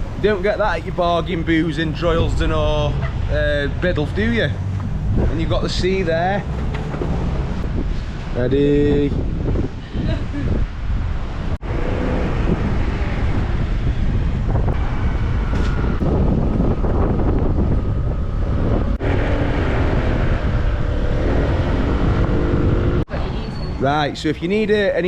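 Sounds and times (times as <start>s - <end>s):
vehicle running: 0.0s - 9.0s, 10.8s - 23.6s
wind buffeting microphone: 0.0s - 24.7s.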